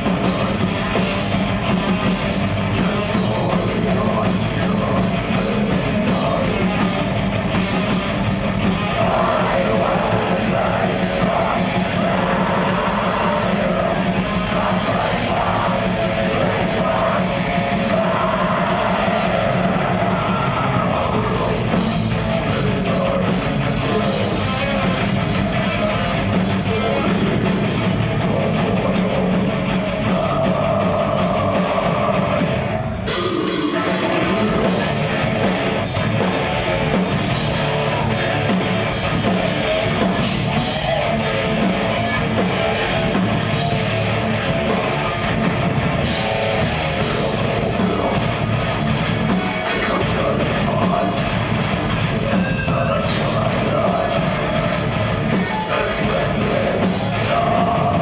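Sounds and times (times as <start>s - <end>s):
distorted electric guitars: 0.0s - 58.0s
drum kit: 0.0s - 58.0s.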